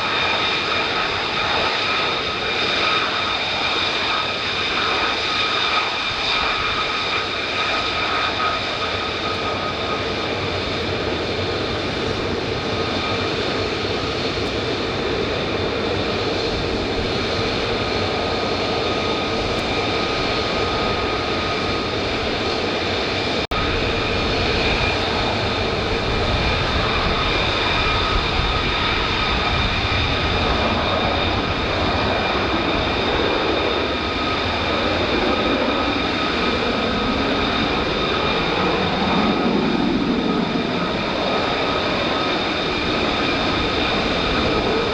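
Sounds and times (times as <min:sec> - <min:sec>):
jet engine roar with whine: 0:00.0 - 0:44.9.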